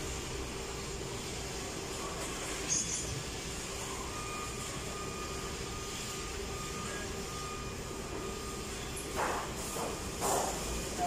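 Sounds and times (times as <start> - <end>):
factory workshop hum: 0.0 - 11.0.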